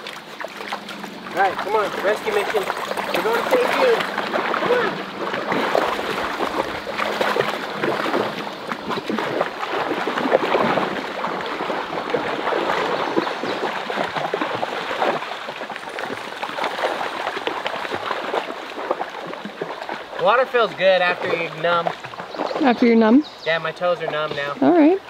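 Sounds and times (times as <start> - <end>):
dogs splashing through water: 0.0 - 25.0
flowing river water: 0.0 - 25.0.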